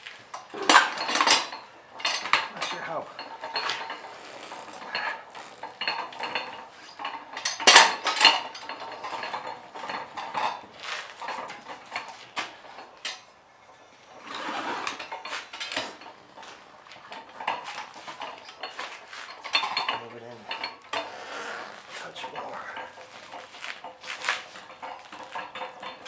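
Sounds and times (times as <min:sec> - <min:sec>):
tire changer metal clanking: 0:00.1 - 0:26.0.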